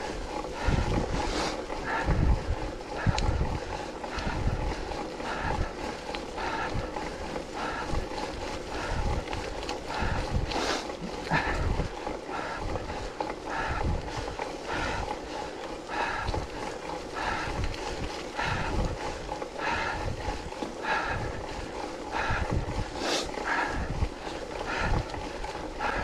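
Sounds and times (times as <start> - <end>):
person breathing hard: 0.0 - 26.0
wind buffeting microphone: 0.0 - 26.0.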